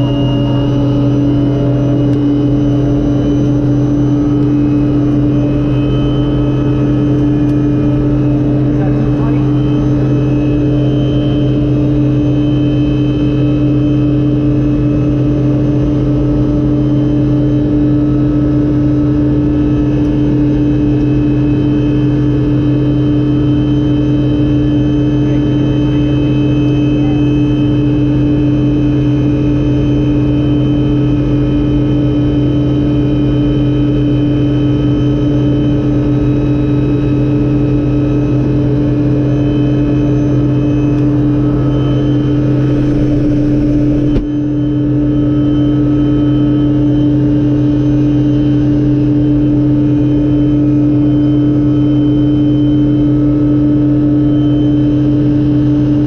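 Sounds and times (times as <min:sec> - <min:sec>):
loud steady engine drone: 0:00.0 - 0:56.0.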